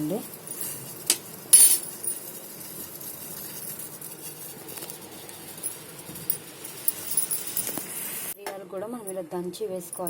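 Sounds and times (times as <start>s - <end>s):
pot simmering with soft hiss: 0.0s - 8.4s.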